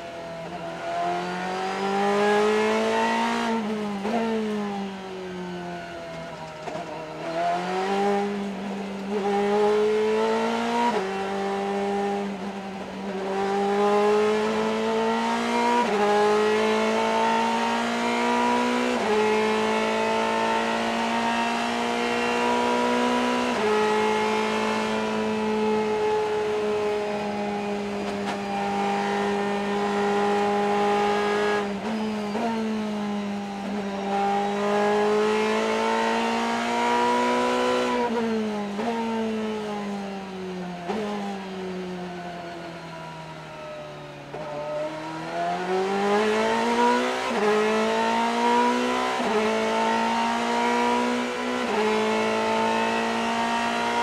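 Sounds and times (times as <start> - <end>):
race car engine at full throttle: 0.0 - 54.0.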